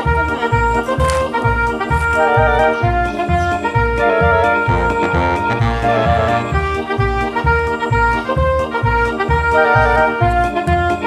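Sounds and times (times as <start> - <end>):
bouncy accordion-like melody: 0.0 - 11.0
steady bass beat: 0.0 - 11.0.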